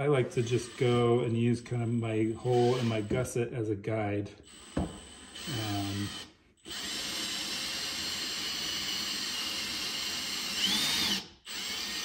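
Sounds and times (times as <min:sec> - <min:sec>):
cordless drill drilling metal: 0:00.0 - 0:03.3, 0:04.4 - 0:12.0.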